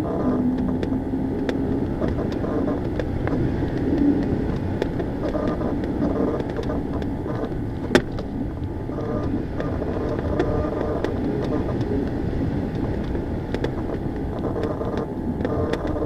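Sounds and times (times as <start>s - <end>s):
low hum: 0.0s - 16.0s
rushing wind noise: 0.0s - 16.0s.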